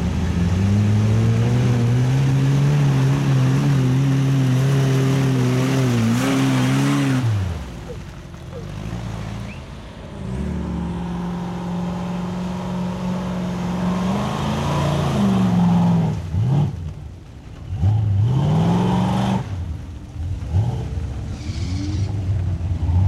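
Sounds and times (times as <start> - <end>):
truck engine revving in mud: 0.0 - 23.0.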